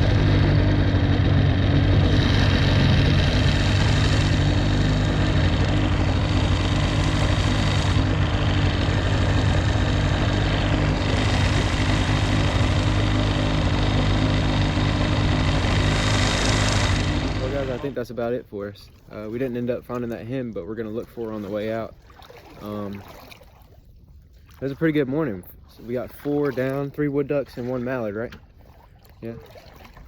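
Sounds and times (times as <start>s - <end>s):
small boat motor running: 0.0s - 30.0s.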